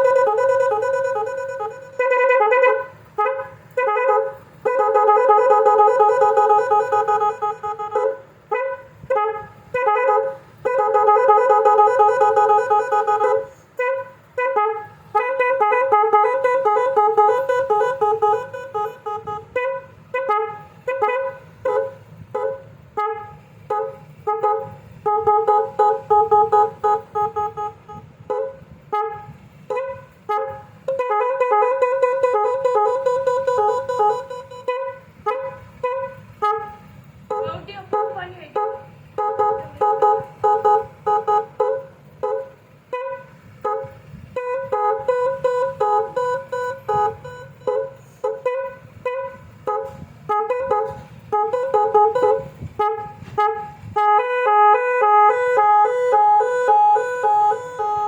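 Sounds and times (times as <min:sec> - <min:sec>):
horn blasts in a tune: 0:00.0 - 0:58.0.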